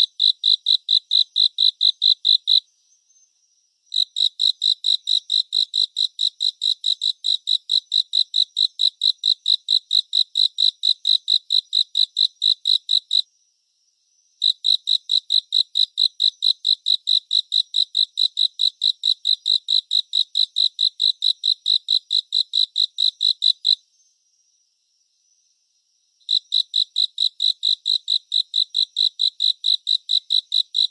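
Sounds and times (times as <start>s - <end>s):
cricket chirping: 0.0s - 30.9s.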